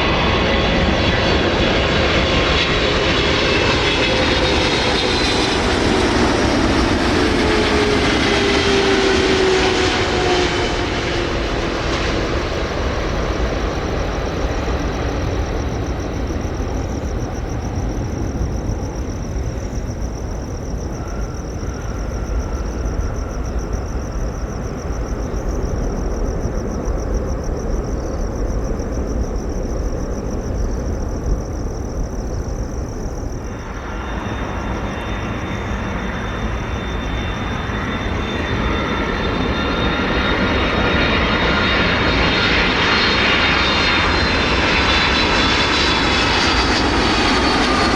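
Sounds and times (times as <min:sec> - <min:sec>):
jet engine whine and rumble: 0:00.0 - 0:47.9
jet engines running: 0:00.0 - 0:47.9.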